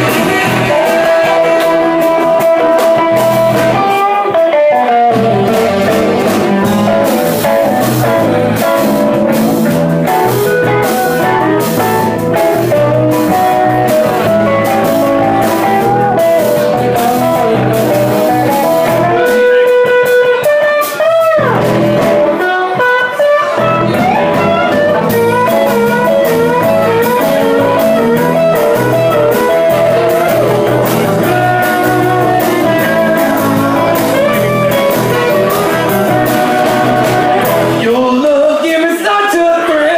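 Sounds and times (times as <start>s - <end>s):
blues band playing: 0.0s - 39.9s
electric guitar: 0.0s - 39.9s.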